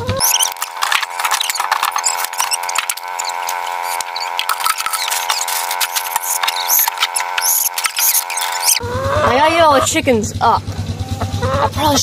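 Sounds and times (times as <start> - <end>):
chickens chirping and peeping: 0.0 - 10.0, 10.9 - 12.0
steady hum: 0.0 - 12.0.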